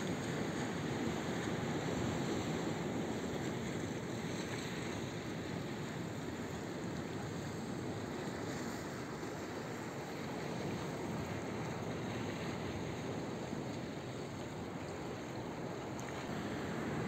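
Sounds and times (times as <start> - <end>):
surf breaking on rocky shore: 0.0 - 17.0
wind: 0.0 - 17.0.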